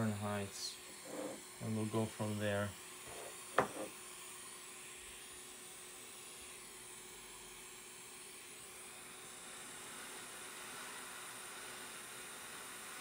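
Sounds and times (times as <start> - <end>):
hot air station hiss: 0.0 - 13.0.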